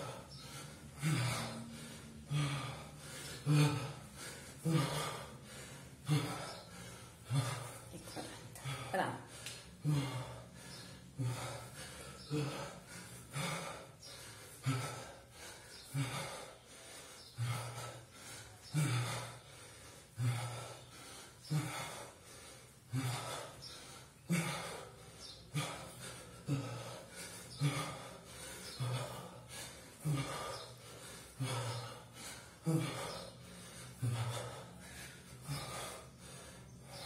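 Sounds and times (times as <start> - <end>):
man breathing hard: 0.0 - 37.0.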